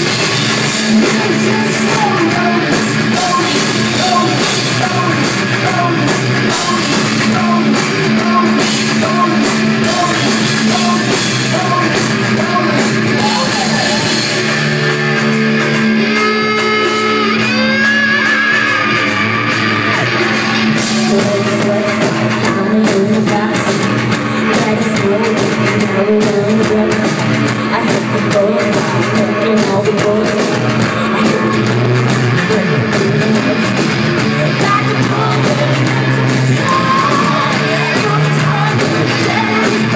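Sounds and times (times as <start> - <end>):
person singing: 0.0 - 39.9
rock band playing: 0.0 - 39.9.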